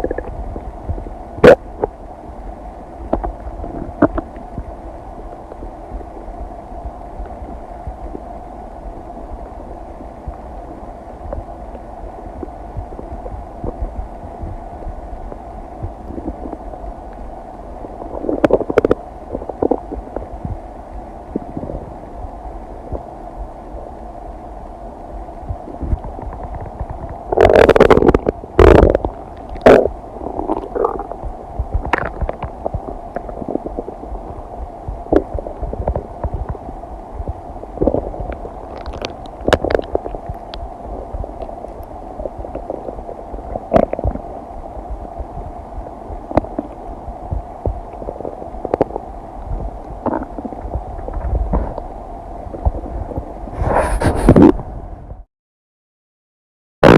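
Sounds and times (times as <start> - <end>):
stomach gurgling: 0.0 - 2.1, 3.0 - 20.7, 21.3 - 24.0, 25.4 - 55.2.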